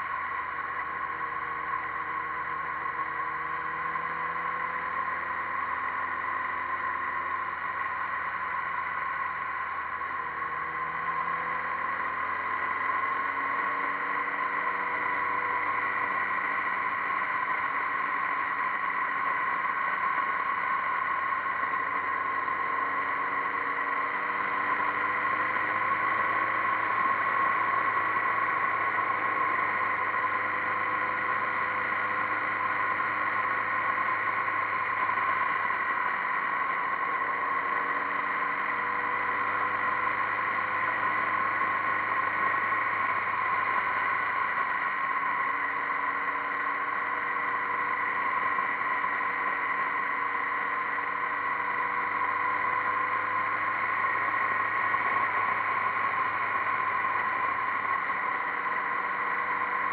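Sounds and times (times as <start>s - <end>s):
motorcycle engine running: 0.0s - 59.9s
wind and road rush: 0.0s - 59.9s.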